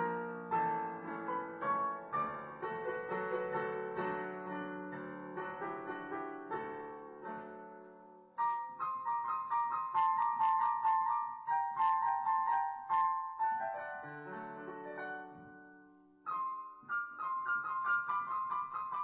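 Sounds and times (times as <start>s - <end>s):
digital piano playing: 0.0s - 19.0s.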